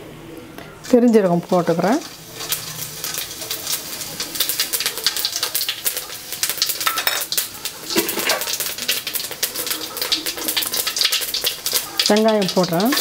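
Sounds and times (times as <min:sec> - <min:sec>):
seeds crackling in hot oil: 0:00.8 - 0:13.0.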